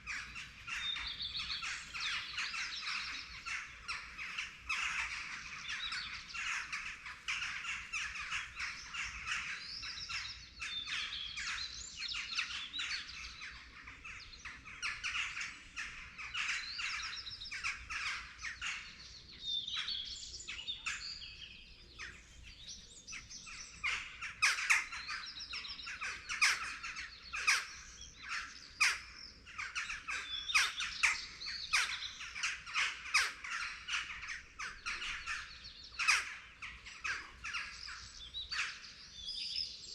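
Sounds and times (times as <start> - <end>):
sharp bird calls: 0.0 - 39.9
songbirds chirping and trilling: 0.0 - 39.9.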